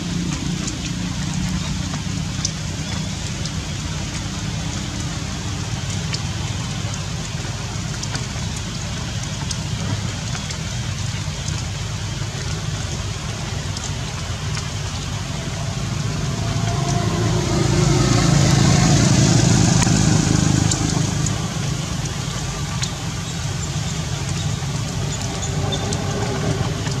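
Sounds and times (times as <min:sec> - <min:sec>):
motor vehicle engine rumble: 0:00.0 - 0:27.0
steady background noise: 0:00.0 - 0:27.0.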